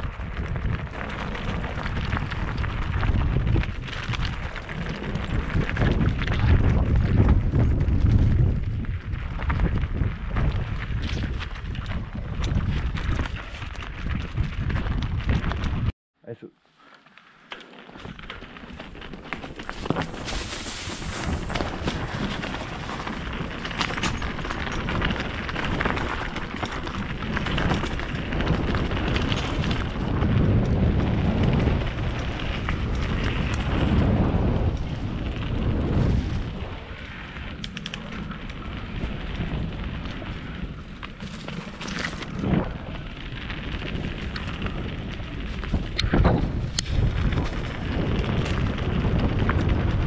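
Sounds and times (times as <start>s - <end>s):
bike rattling over bumps: 0.0s - 15.9s, 17.3s - 50.0s
tyres rolling on dirt: 0.0s - 15.9s, 17.2s - 50.0s
wind rushing over microphone: 0.0s - 15.9s, 19.8s - 50.0s.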